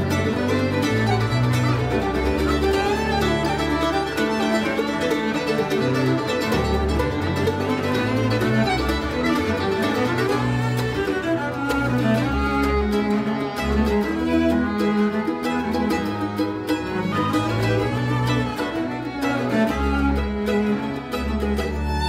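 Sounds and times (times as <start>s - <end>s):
bass notes: 0.0s - 22.0s
fiddle over plucked strings: 0.0s - 22.0s.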